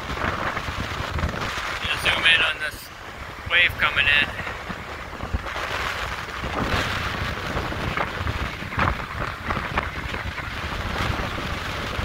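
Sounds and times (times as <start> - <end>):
heavy surf breaking: 0.0 - 12.0
wind rumbling on microphone: 0.0 - 12.0.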